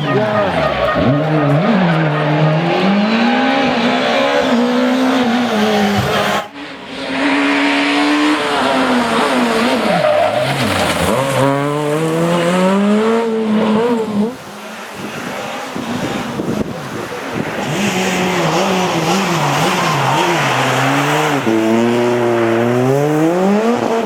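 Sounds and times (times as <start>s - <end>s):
rally car engine at full throttle: 0.0s - 24.0s.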